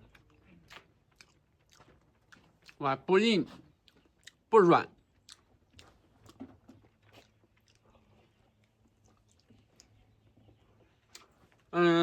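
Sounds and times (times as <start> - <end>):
person chewing: 0.0 - 2.8, 3.4 - 11.7.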